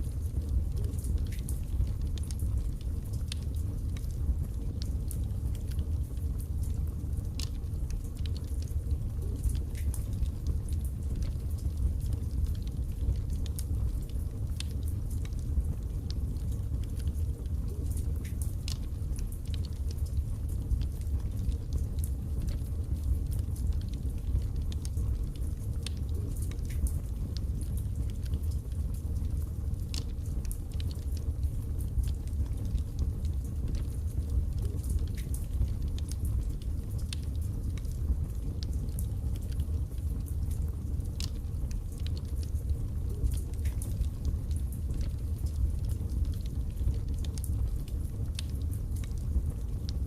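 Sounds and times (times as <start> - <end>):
low rumble of burning: 0.0 - 50.0
wood fire crackling: 0.0 - 50.0.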